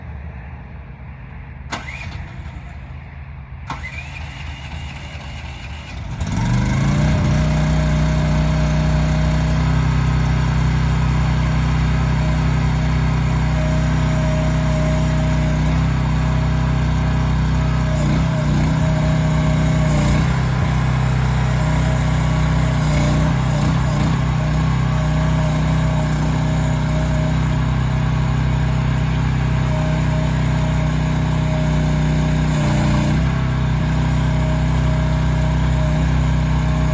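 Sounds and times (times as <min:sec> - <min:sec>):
excavator engine cranking: 0:01.7 - 0:03.0, 0:03.7 - 0:36.9
excavator engine idling: 0:01.7 - 0:36.9.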